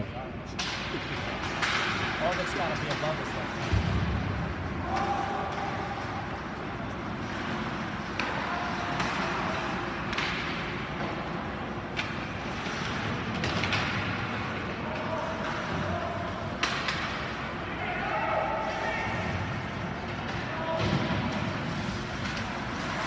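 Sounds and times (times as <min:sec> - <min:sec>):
hockey sticks clacking on puck: 0:00.5 - 0:03.9, 0:04.8 - 0:17.7, 0:18.5 - 0:23.0
skates scraping ice: 0:00.6 - 0:23.0.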